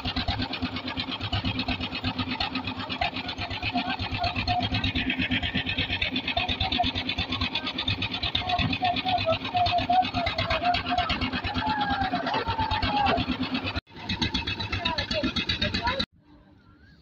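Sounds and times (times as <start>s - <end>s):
concrete mixer engine chugging: 0.0s - 17.0s.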